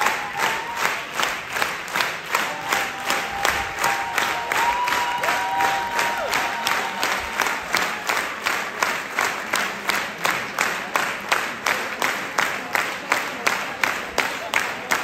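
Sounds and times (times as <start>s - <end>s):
audience clapping in rhythm: 0.0s - 15.0s
crowd noise: 0.0s - 15.0s.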